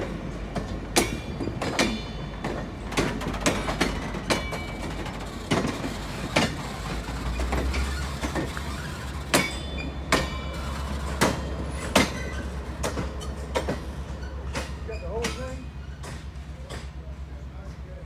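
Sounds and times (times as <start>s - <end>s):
train wheels clicking over rail joints: 0.0s - 17.9s
low train rumble: 0.0s - 18.0s.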